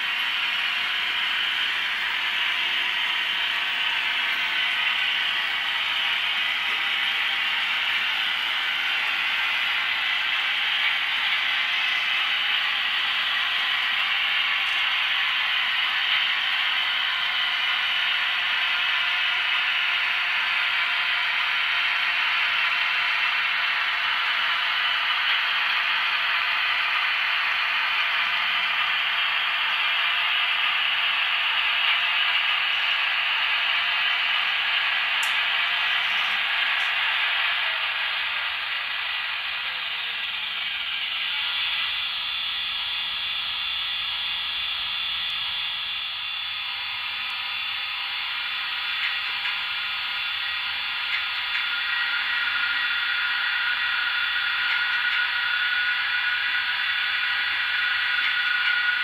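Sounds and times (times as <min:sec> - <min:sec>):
model trains rattling on track: 0:00.0 - 0:43.0, 0:46.6 - 0:59.0.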